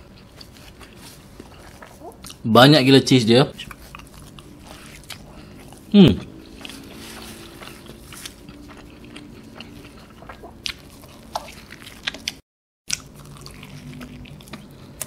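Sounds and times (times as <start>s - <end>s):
person chewing food: 0.0s - 2.4s, 3.6s - 15.0s.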